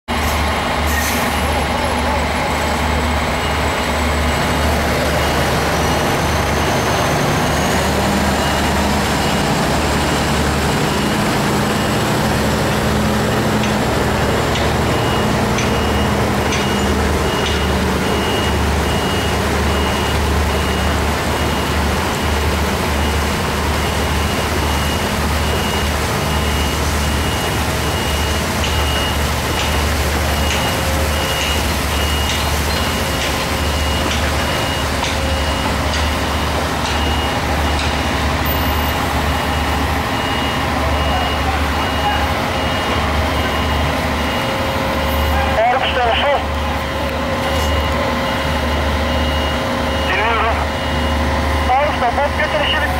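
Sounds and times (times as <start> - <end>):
diesel truck engine droning: 0.1 - 52.9
high warning beeper: 1.6 - 13.2, 14.8 - 52.9.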